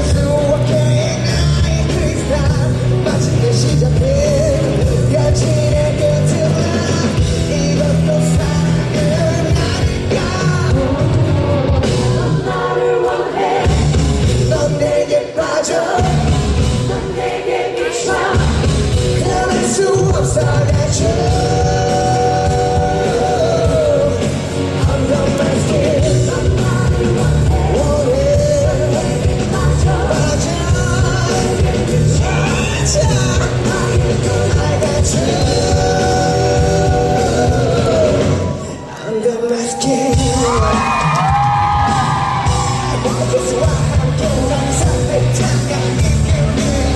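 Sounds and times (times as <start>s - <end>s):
man singing: 0.0s - 12.3s, 13.7s - 16.7s, 18.9s - 46.9s
rock band playing: 0.0s - 39.3s, 39.9s - 46.9s.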